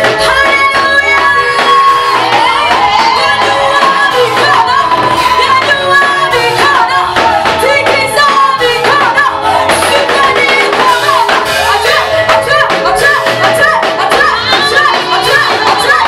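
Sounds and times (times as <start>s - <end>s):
group singing gospel: 0.0s - 16.0s
instrumental accompaniment with beat: 0.0s - 16.0s.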